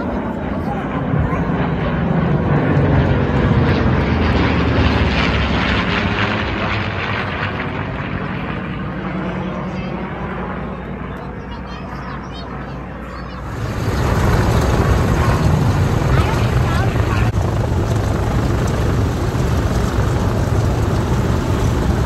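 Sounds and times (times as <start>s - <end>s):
propeller planes passing overhead: 0.0s - 22.0s.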